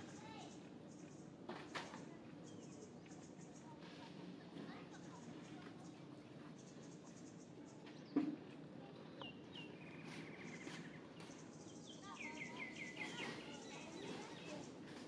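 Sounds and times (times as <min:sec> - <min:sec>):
small birds chirping: 0:00.0 - 0:03.8, 0:04.9 - 0:15.0.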